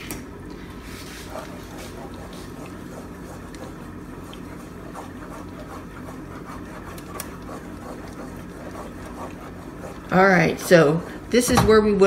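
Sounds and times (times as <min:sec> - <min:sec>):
steady low hum: 0:00.0 - 0:12.0
wooden spoon scraping pot: 0:00.9 - 0:11.4.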